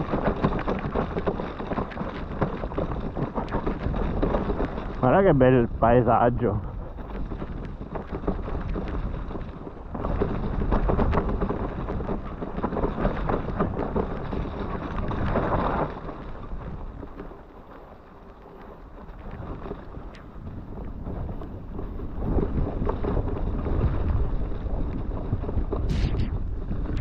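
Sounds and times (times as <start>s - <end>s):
bike rattling and knocking: 0.0s - 25.8s
wind buffeting microphone: 0.0s - 27.0s.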